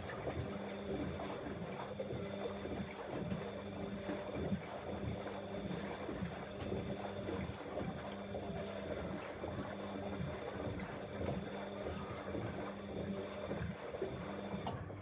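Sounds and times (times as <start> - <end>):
drum churning and sloshing: 0.0 - 15.0
washing machine motor hum: 0.0 - 15.0.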